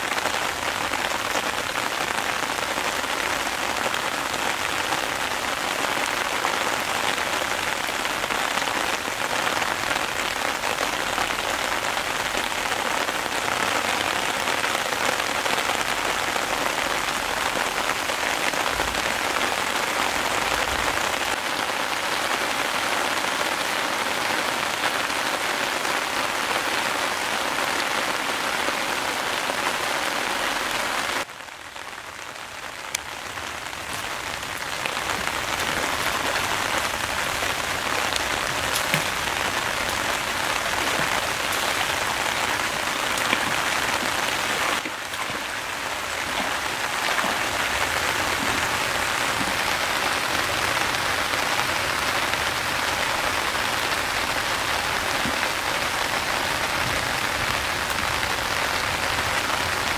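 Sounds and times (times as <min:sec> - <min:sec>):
rain falling on leaves and water: 0:00.0 - 0:59.9.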